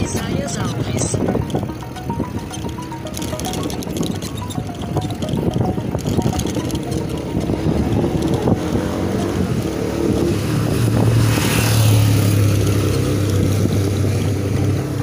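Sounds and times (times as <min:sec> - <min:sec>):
motorcycle engine drone: 0:00.0 - 0:15.0
wind buffeting microphone: 0:00.0 - 0:15.0.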